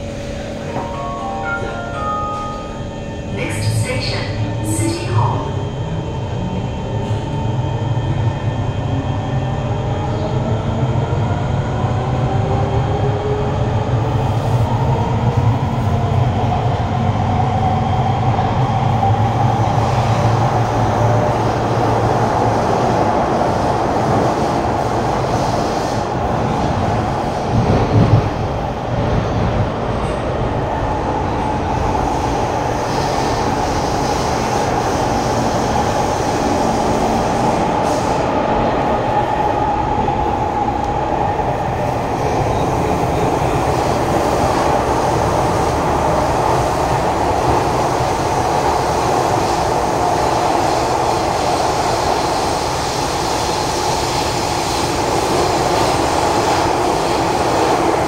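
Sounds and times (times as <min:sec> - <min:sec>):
train wheels rumbling on rails: 0:03.2 - 0:58.0.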